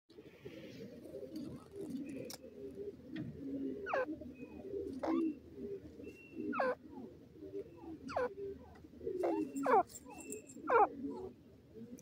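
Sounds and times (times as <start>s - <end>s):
low warbling murmur of calls: 0.6s - 11.9s.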